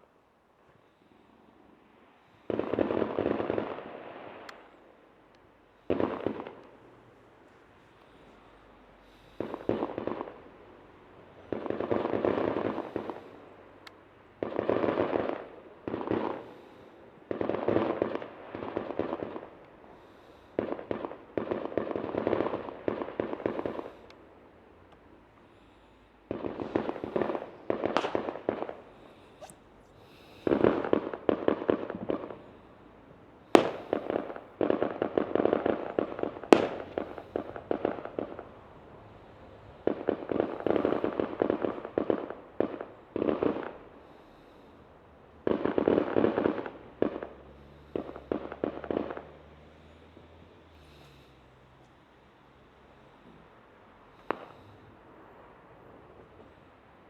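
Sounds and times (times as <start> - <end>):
fireworks crackling pops: 2.4 - 4.7, 5.3 - 44.7, 45.4 - 50.0, 53.2 - 54.9
fireworks sharp bangs: 2.4 - 4.8, 5.7 - 44.7, 45.4 - 50.0, 54.1 - 54.9.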